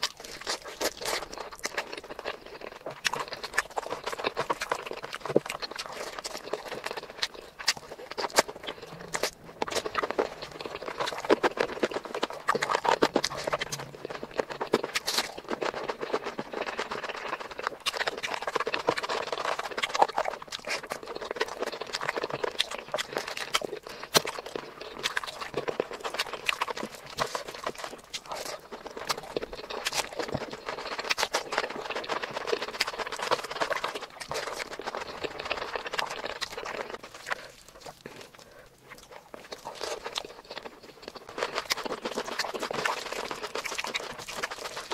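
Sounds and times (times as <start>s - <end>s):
wet chewing and crunching: 0.0s - 44.9s.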